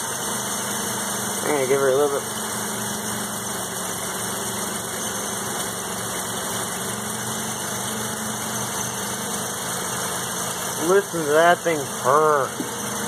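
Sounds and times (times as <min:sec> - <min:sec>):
rotary engine idling: 0:00.0 - 0:13.0.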